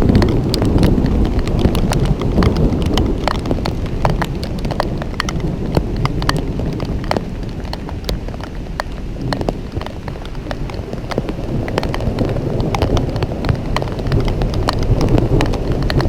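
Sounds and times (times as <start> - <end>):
low thunder rumble: 0.0 - 16.0
raindrops hitting close: 0.0 - 16.0.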